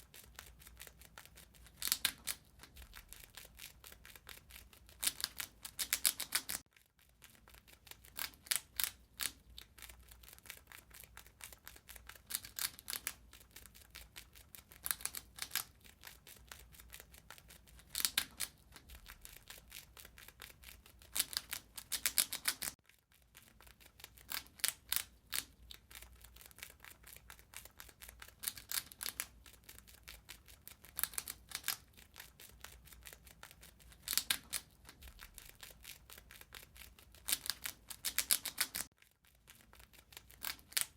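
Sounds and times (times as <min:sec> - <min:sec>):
rat crunching and gnawing: 0:00.0 - 0:40.9.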